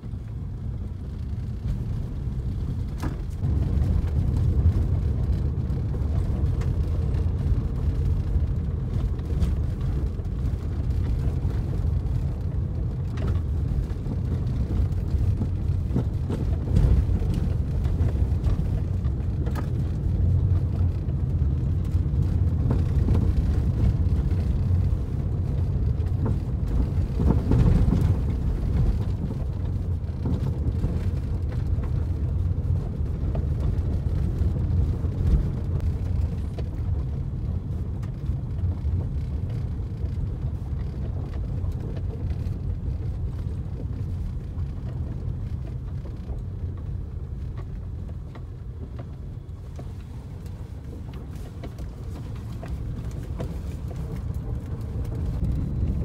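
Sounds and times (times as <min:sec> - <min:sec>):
tyres and engine rumbling: 0:00.0 - 0:56.0.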